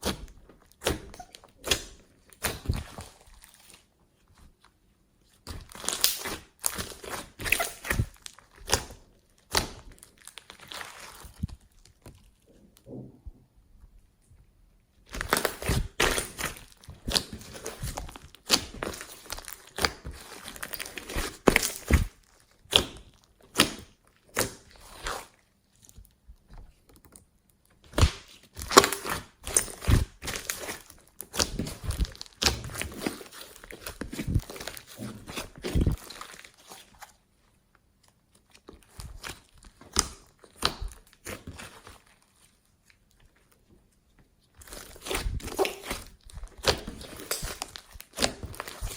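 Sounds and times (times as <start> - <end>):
slime squelching and popping: 0.0 - 3.9, 5.2 - 13.0, 15.0 - 27.0, 27.8 - 37.1, 38.3 - 42.2, 44.5 - 48.9.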